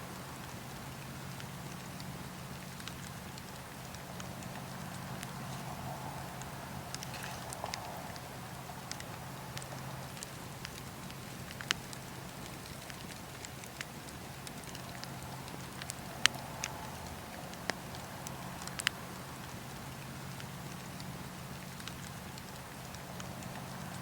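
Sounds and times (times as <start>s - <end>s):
campfire crackling: 0.0s - 24.0s
burning wood popping: 0.2s - 24.0s.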